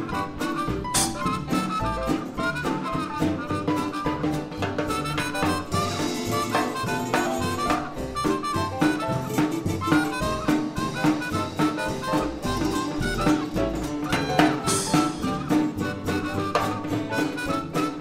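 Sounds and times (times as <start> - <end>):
drum kit steady beat: 0.0 - 18.0
trumpet leading melody: 0.0 - 18.0.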